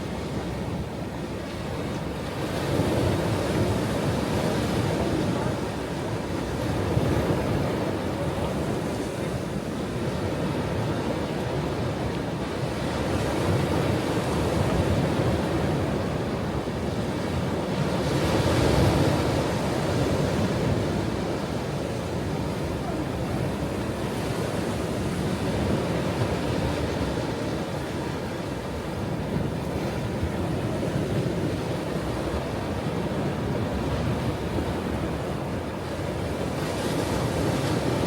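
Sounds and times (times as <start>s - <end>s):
ocean waves breaking on shore: 0.0s - 38.0s.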